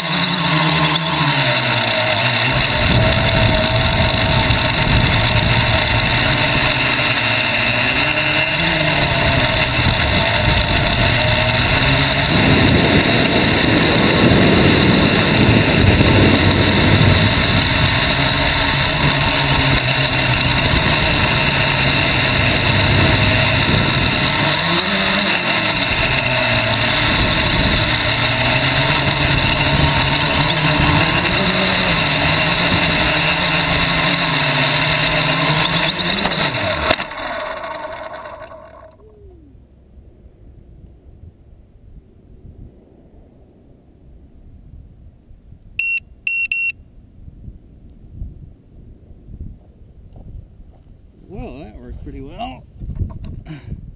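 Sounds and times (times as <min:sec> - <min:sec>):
drone motors and propellers whirring: 0:00.0 - 0:44.3.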